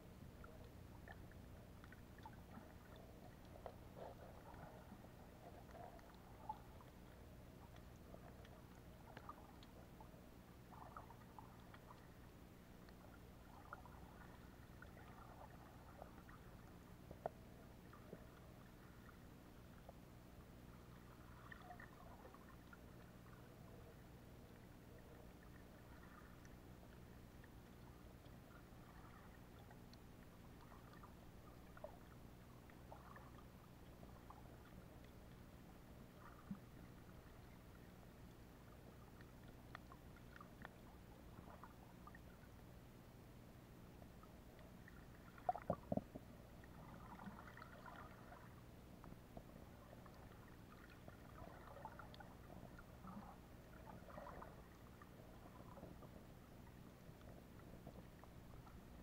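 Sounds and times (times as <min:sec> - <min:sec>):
low underwater hum: 0:00.0 - 0:59.0
soft clicks and ticks: 0:00.0 - 0:59.0.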